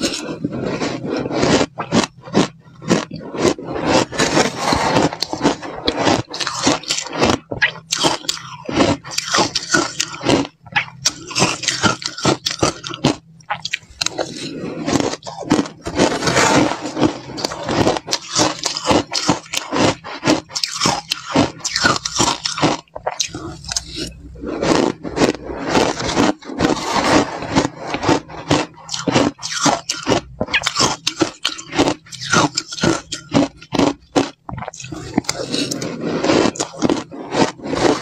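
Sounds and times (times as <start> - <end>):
chewing crushed ice: 0.0 - 38.0.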